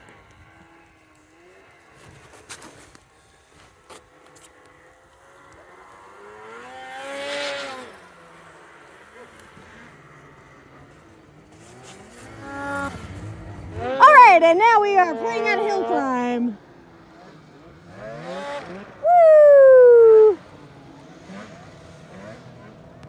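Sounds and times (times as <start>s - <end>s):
snowmobile engine passing by: 0.0s - 23.0s.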